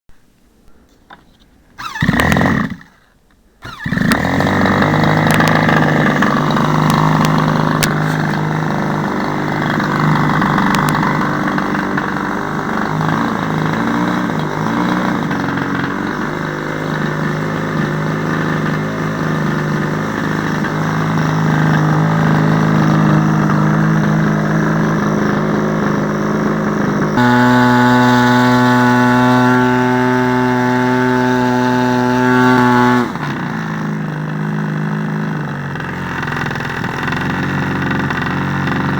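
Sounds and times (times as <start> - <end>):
model plane engine running: 1.8 - 38.9.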